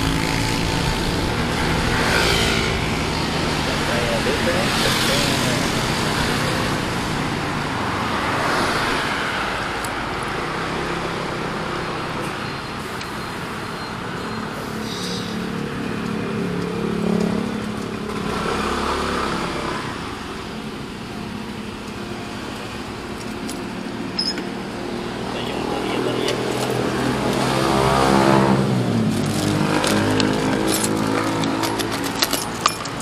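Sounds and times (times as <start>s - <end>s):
city traffic: 0.0s - 33.0s
road and wind noise: 0.0s - 33.0s.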